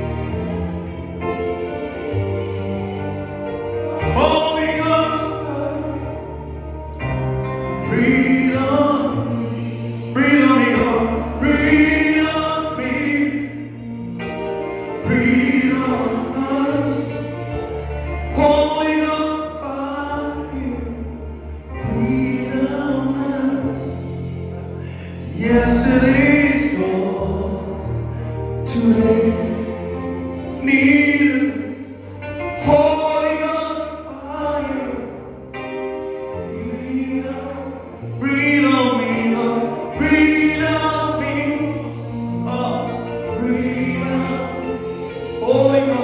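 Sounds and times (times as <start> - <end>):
gospel worship singing: 0.0 - 46.0
sustained low instrumental chords: 0.0 - 46.0.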